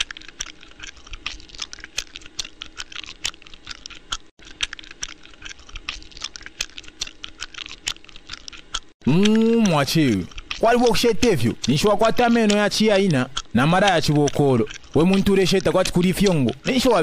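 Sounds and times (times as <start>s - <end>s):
man chewing on a bone: 0.0s - 17.0s.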